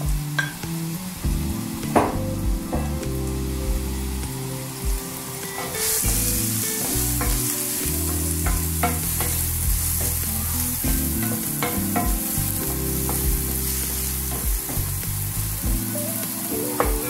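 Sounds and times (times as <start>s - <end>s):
onions sizzling in a wok: 0.0s - 17.0s.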